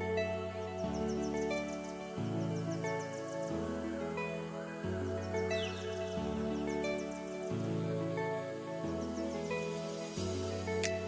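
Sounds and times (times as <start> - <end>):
calm instrumental music: 0.0 - 11.0.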